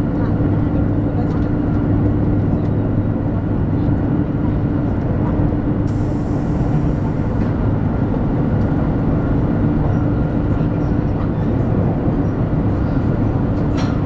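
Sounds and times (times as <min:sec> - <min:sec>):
train cabin rumble and drone: 0:00.0 - 0:14.0.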